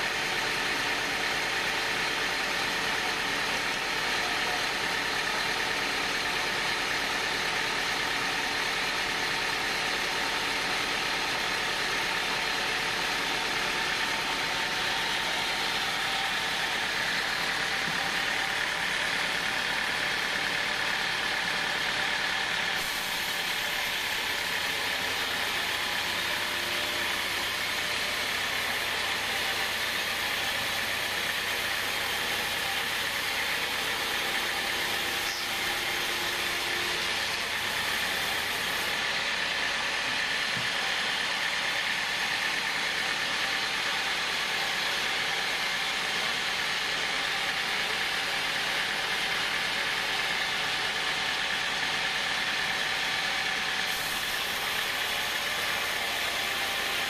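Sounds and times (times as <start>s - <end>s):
band saw running: 0.0s - 57.0s
saw blade cutting wood: 9.6s - 41.4s, 42.0s - 57.0s.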